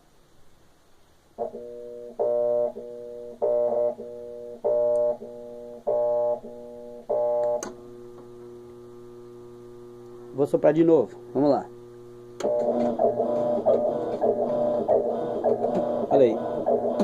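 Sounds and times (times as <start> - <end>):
washing machine motor humming: 1.5 - 17.0.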